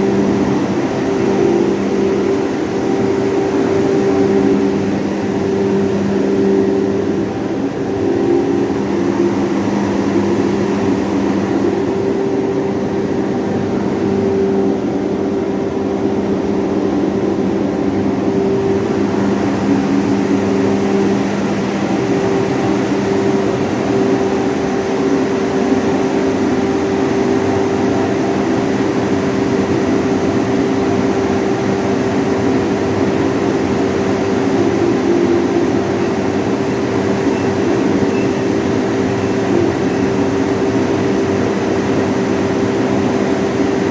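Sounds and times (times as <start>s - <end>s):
hammer mill machine drone: 0.0s - 43.9s.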